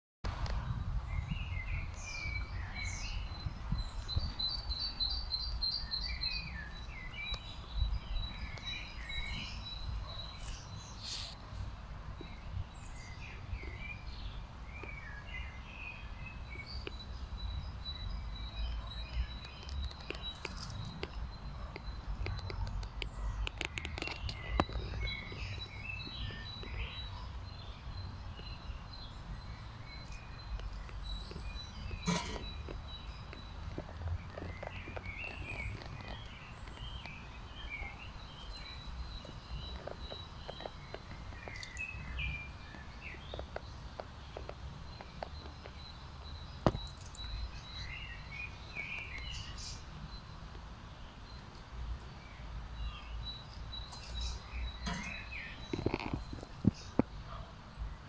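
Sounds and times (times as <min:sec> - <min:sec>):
songbirds chirping and singing: 0:00.3 - 0:58.0.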